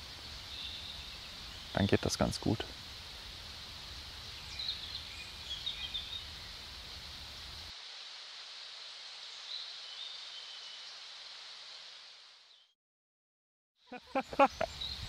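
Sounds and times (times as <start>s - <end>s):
steady outdoor hiss: 0.0s - 12.7s, 13.8s - 15.0s.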